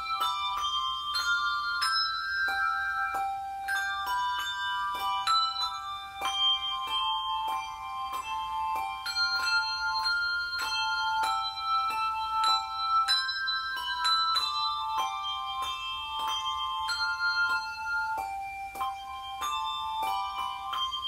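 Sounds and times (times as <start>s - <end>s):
handbells playing a melody: 0.0s - 21.0s.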